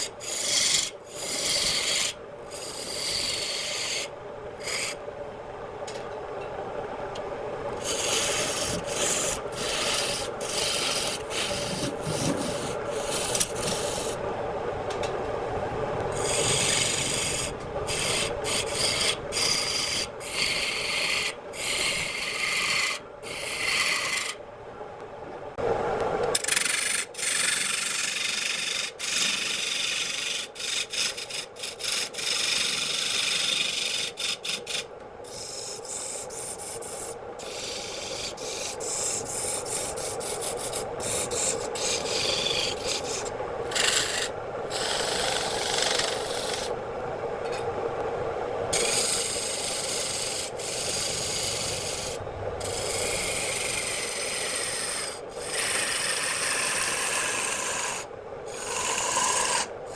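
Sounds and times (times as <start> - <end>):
lathe tool scraping wood: 0.0 - 5.0, 7.8 - 14.2, 16.1 - 24.3, 26.4 - 46.7, 48.8 - 59.7.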